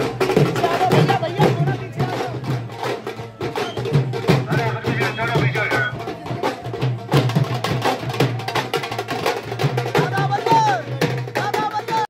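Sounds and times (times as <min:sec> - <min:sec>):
barrel drums beaten with sticks: 0:00.0 - 0:12.0.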